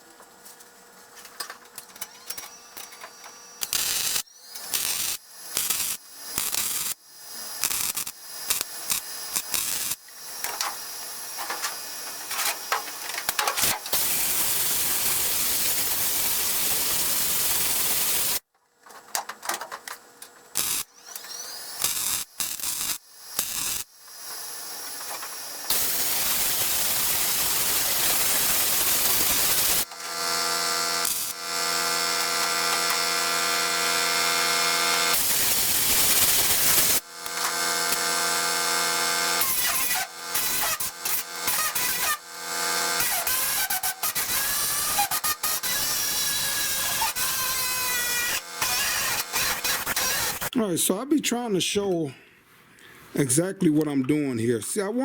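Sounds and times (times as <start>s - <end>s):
power tool motor running: 2.0s - 18.4s, 20.5s - 50.5s
welding arc crackling and hissing: 2.6s - 18.5s, 20.5s - 50.6s.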